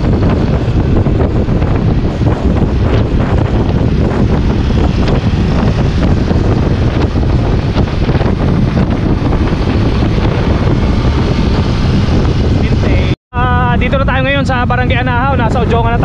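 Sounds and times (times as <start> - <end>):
small motorcycles running: 0.0 - 13.1
wind buffeting microphone: 0.0 - 16.0.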